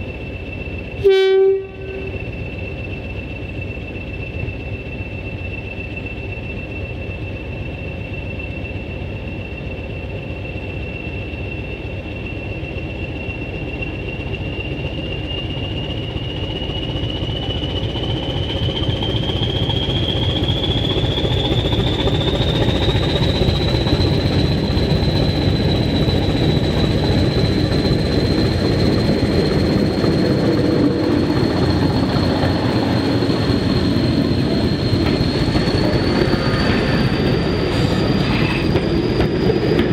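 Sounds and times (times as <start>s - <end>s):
diesel locomotive engine: 0.0s - 39.9s.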